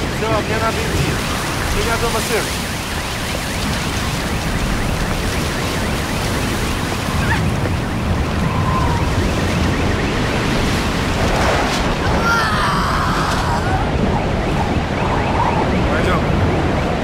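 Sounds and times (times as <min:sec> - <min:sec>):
strong storm wind gusting: 0:00.0 - 0:17.0.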